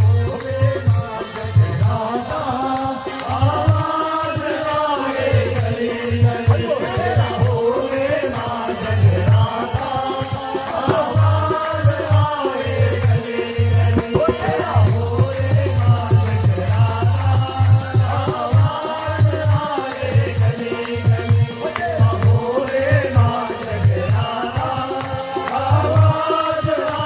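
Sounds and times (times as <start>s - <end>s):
shaker rattle: 0.0s - 27.0s.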